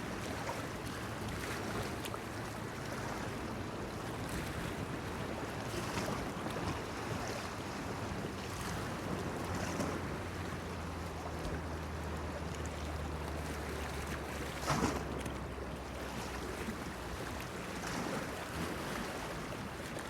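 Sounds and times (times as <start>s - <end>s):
small waves lapping against pier: 0.0s - 20.0s.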